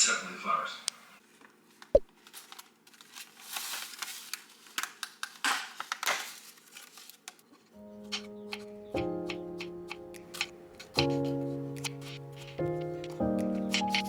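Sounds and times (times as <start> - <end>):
rustling: 1.2 - 8.7, 9.3 - 14.0.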